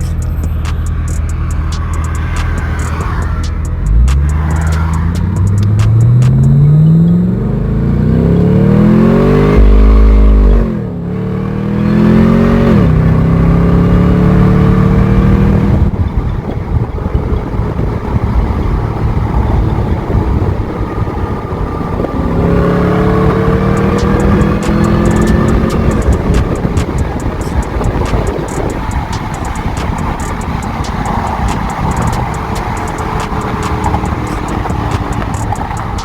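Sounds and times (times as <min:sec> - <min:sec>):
car engine revving under throttle: 0:00.0 - 0:36.0.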